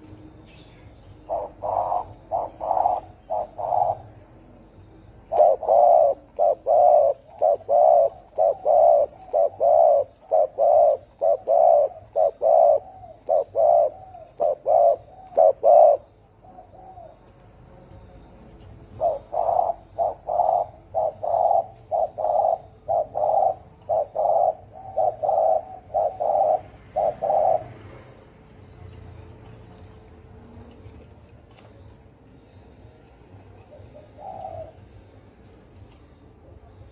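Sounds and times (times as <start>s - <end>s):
dove cooing: 1.0s - 32.5s, 33.3s - 36.9s.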